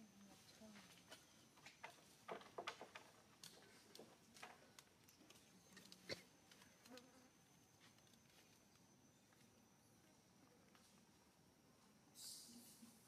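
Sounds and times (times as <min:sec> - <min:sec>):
faint high steady whine: 0:00.0 - 0:13.0.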